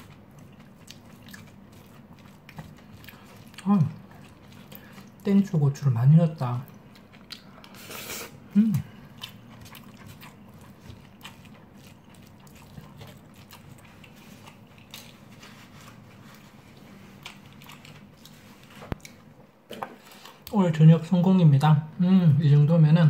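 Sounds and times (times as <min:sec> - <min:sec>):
chewing: 0:00.0 - 0:05.8, 0:06.4 - 0:20.6.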